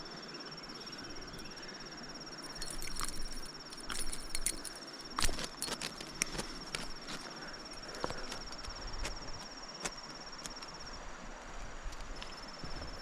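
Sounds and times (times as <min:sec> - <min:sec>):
insect trilling: 0:00.0 - 0:10.8.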